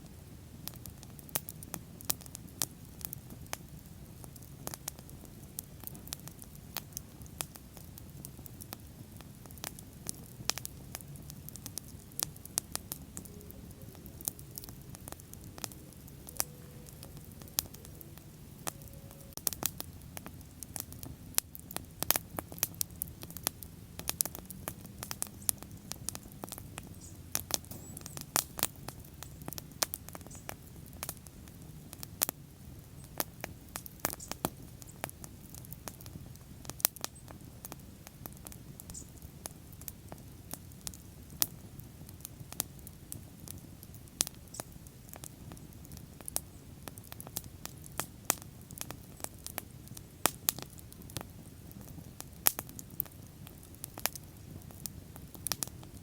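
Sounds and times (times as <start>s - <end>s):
bonfire crackles and pops: 0.0s - 56.0s
low rumble of flames: 0.0s - 56.0s.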